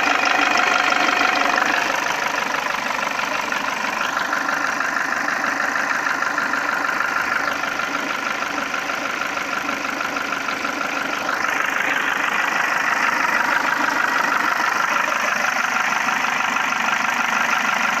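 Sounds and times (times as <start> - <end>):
engine running with knocking: 0.0 - 18.0.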